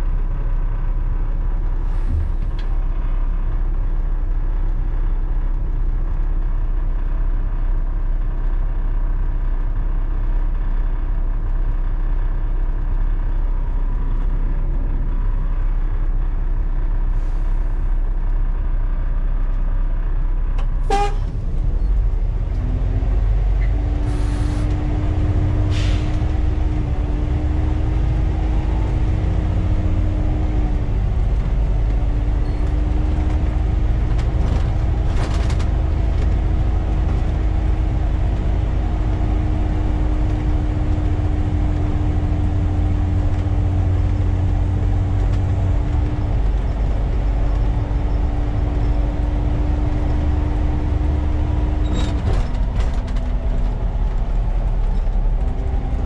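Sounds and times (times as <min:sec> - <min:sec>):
diesel bus engine rumble: 0:00.0 - 0:56.0.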